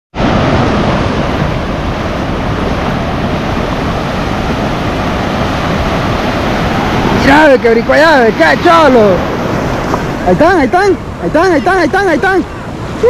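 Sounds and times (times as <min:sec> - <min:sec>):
ocean surf breaking on shore: 0:00.1 - 0:13.0.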